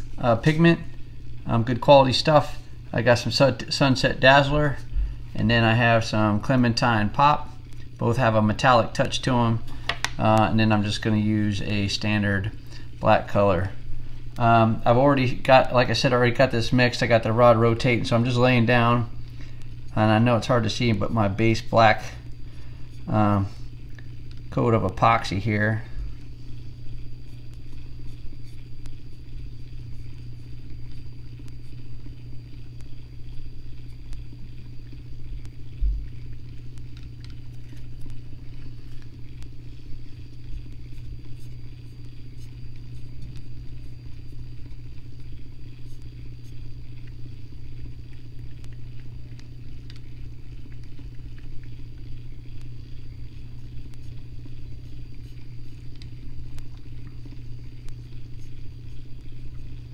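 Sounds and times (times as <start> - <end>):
electric motor humming: 9.6 - 59.9.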